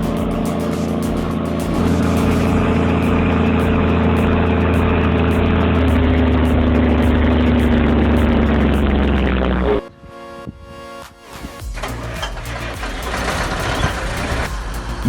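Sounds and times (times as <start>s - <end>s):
bulldozer diesel engine running: 0.0s - 9.8s, 11.7s - 15.0s.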